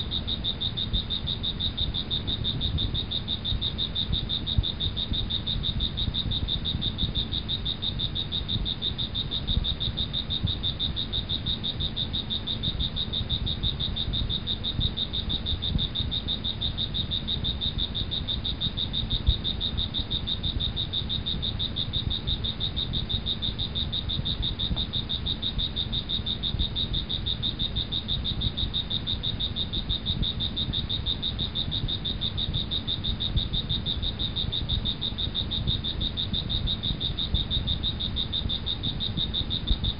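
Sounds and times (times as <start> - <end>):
insects and frogs trilling: 0.0 - 39.9.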